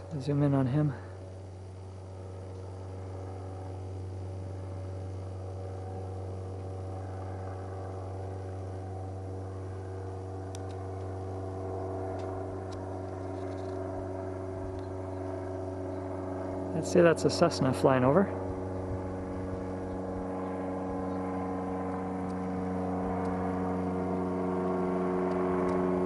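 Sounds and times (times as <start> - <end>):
light plane engine drone: 0.0 - 26.0.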